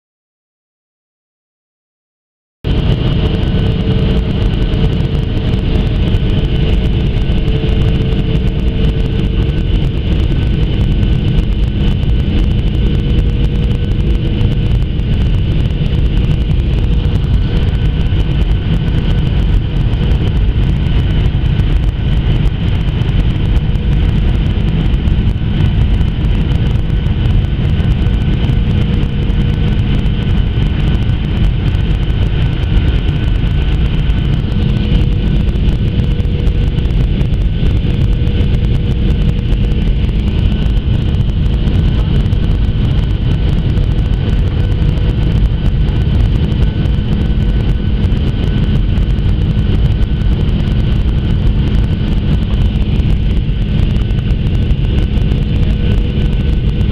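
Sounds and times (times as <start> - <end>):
jet engine hum: 2.7 - 56.9
rush of air: 2.7 - 56.9
steady whining tones: 2.7 - 56.9.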